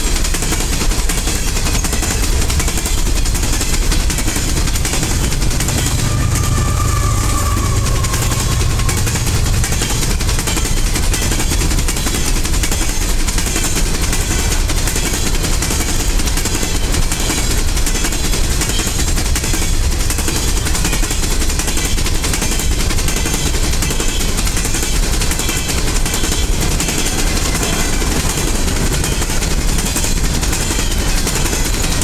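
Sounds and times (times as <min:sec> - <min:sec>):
steel wheels clattering on rails: 0:00.0 - 0:32.0
train cars rumbling past: 0:00.1 - 0:32.0.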